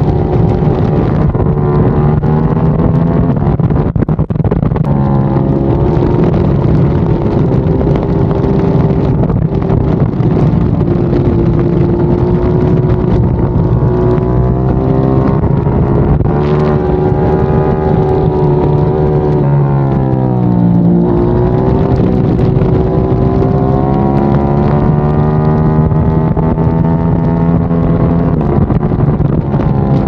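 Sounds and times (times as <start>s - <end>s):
motorcycle engine revving: 0.0s - 30.0s
wind rush over microphone: 0.0s - 30.0s.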